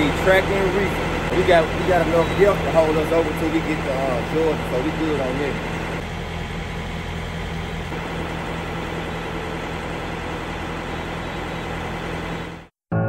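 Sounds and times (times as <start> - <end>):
diesel truck engine idling: 0.0 - 12.7.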